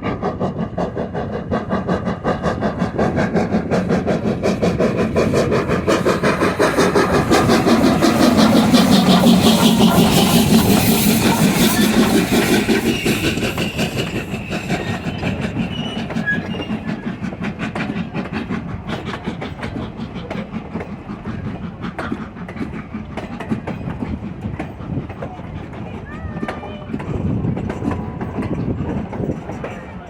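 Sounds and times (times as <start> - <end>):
train passing: 0.0 - 30.0
wheels clicking over rail joints: 0.0 - 30.0.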